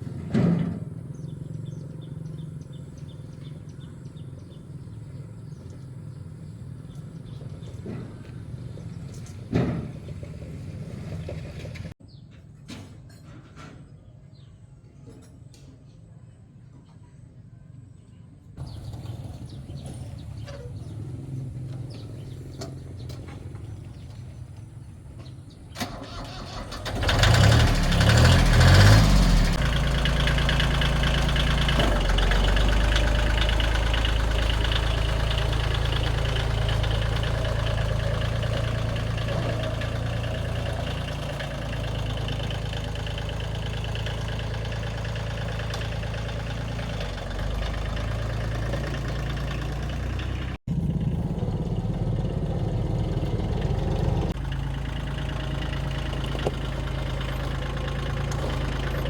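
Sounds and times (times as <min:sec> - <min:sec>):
car engine starting and idling: 0:00.0 - 0:12.0, 0:18.6 - 0:59.0.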